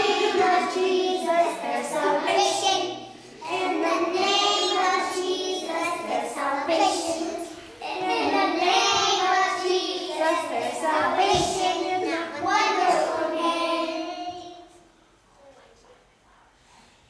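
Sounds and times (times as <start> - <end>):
children singing in unison: 0.0 - 14.7.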